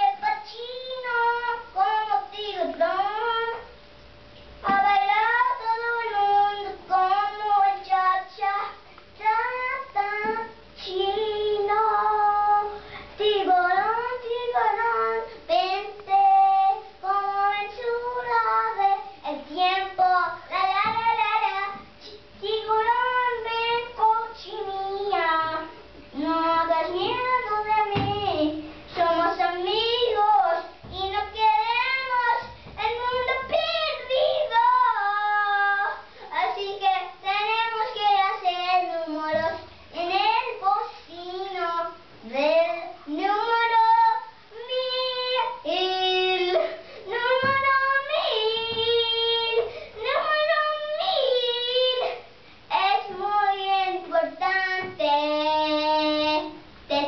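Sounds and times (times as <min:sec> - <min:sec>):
boy singing: 0:00.0 - 0:03.7, 0:04.6 - 0:57.0.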